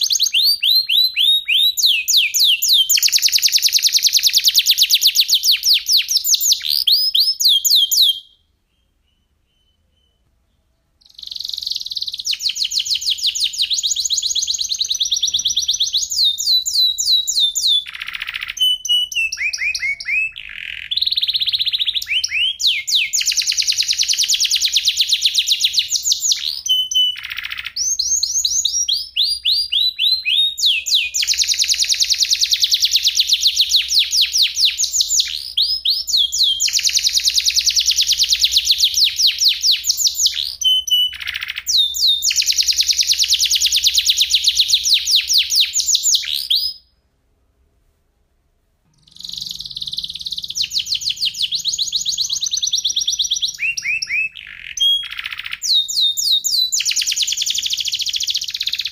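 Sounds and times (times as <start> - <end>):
canary singing trills: 0.0 - 46.9, 49.0 - 58.9.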